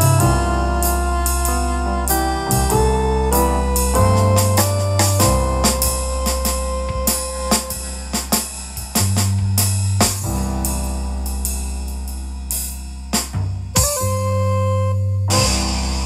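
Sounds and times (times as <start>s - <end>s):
deep bass line: 0.0s - 16.0s
instrumental jazz band: 0.0s - 16.0s.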